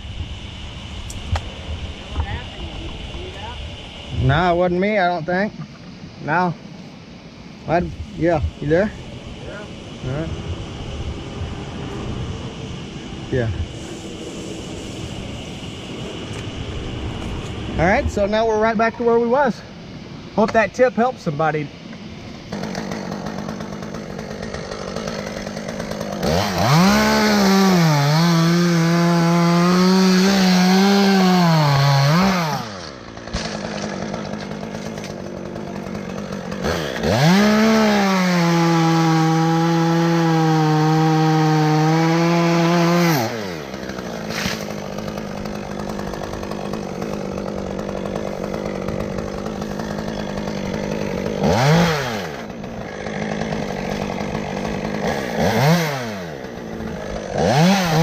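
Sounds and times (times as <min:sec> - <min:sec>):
chainsaw idling and cutting wood: 0:07.6 - 0:58.0.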